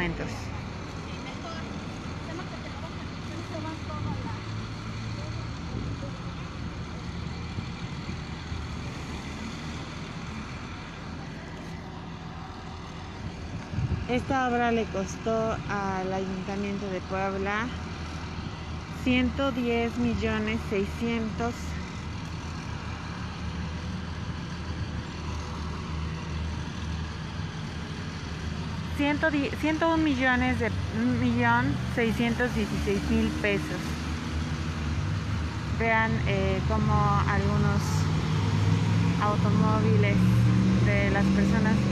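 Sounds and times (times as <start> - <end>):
diesel engine humming: 0.0 - 41.9
street traffic rumble: 0.0 - 41.9.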